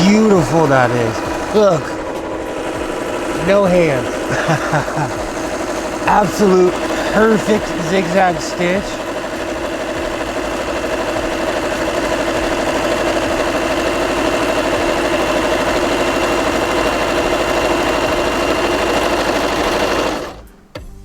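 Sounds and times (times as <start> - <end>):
sewing machine running: 0.0 - 20.5.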